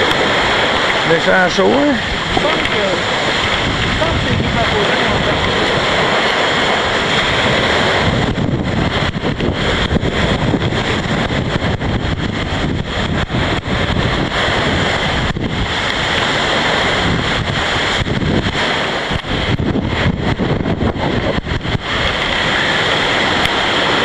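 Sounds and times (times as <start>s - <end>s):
storm wind buffeting microphone: 0.0s - 24.0s
waves breaking on shore: 0.0s - 24.0s.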